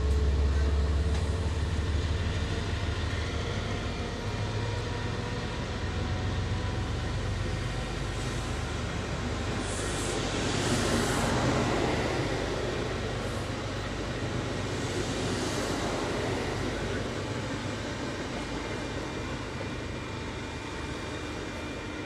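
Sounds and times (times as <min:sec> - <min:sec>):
train running past: 0:00.0 - 0:22.0.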